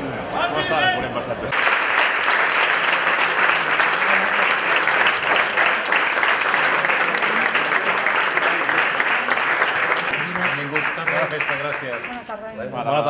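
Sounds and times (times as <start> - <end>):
crowd clapping: 1.5 - 12.4.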